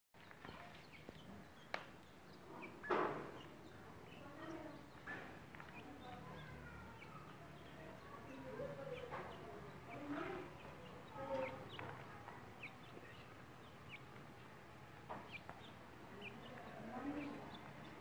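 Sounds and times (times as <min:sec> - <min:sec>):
chicks peeping: 0:00.2 - 0:18.0.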